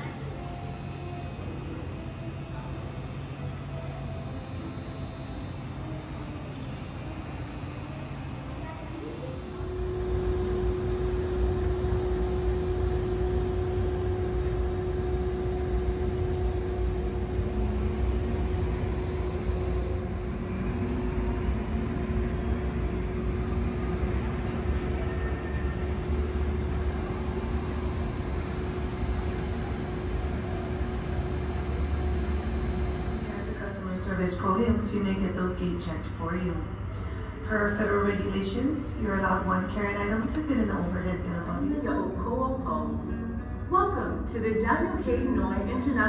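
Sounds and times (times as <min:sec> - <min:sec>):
jet airliner engine drone: 0:00.0 - 0:46.0.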